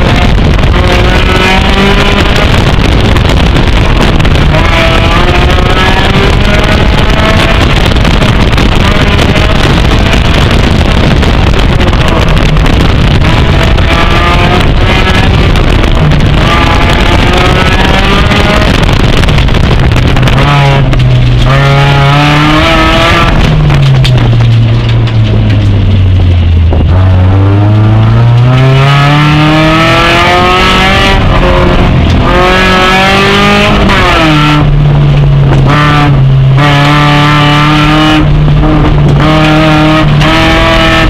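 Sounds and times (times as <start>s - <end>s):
car engine revving: 0.0s - 41.0s
road and wind noise: 0.0s - 41.0s.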